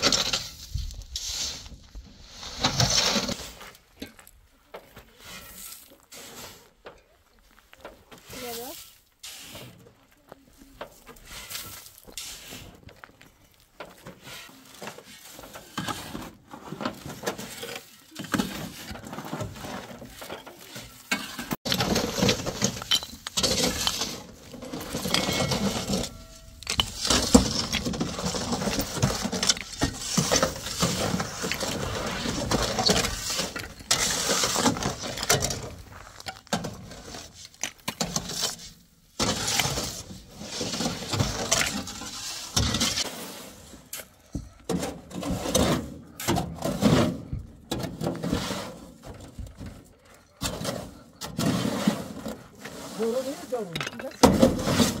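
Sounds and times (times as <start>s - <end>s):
metal shovels scraping truck bed: 0.0s - 7.1s, 7.8s - 10.0s, 10.8s - 55.0s.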